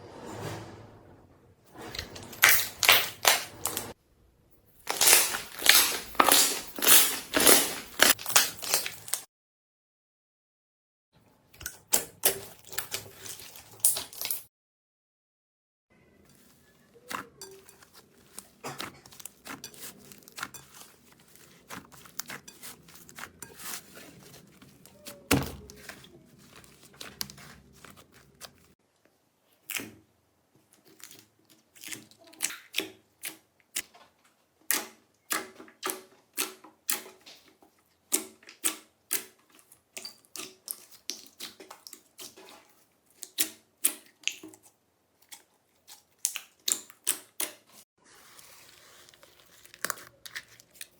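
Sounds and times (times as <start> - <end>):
slime squishing: 1.9 - 4.0, 4.8 - 9.2, 11.6 - 14.5, 16.3 - 28.8, 29.5 - 30.0, 30.6 - 34.0, 34.7 - 50.9.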